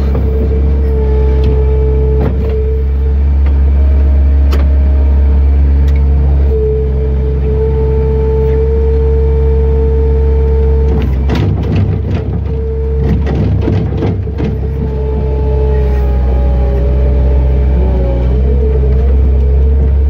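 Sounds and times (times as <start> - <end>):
loader engine whining: 0.0 - 20.0.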